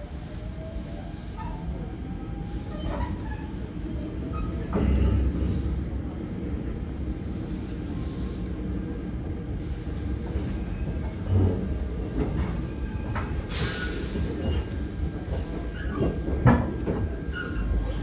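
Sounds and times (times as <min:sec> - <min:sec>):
train car rumble: 0:00.0 - 0:18.0.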